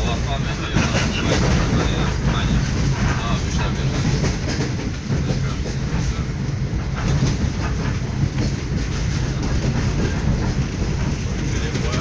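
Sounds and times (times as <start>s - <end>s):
train low rumble: 0.0s - 12.0s
wheel clacks: 0.1s - 12.0s.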